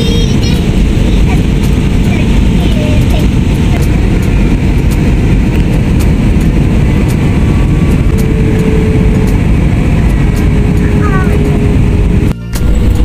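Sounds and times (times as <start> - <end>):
jet engines and rushing air: 0.0 - 13.0.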